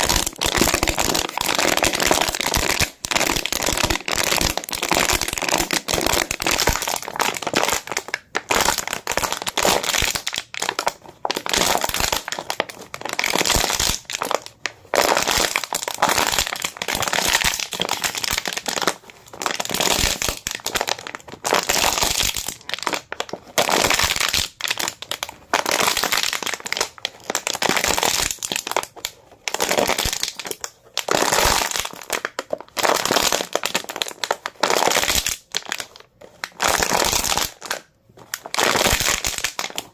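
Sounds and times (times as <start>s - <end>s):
plastic bottle crackling: 0.0s - 39.9s.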